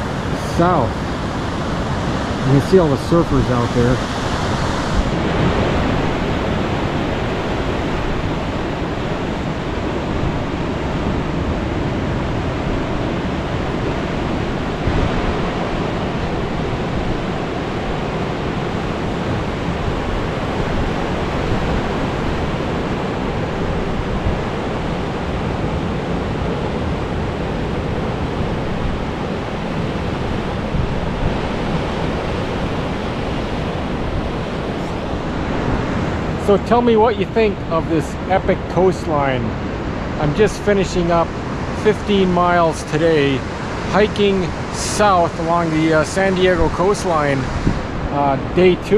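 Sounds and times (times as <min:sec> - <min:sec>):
ocean surf breaking: 0:00.0 - 0:48.9
wind buffeting microphone: 0:00.0 - 0:48.9.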